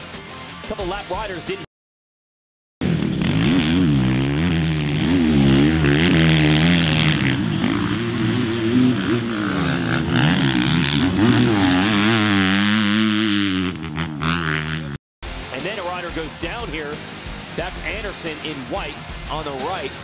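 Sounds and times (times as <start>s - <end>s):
motocross bike engine revving: 2.8s - 20.0s.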